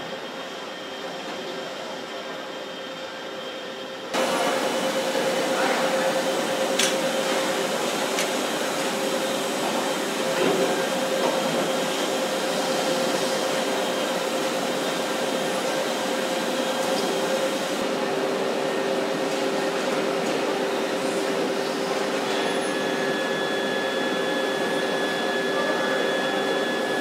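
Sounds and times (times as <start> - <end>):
factory machine hum: 0.0 - 27.0.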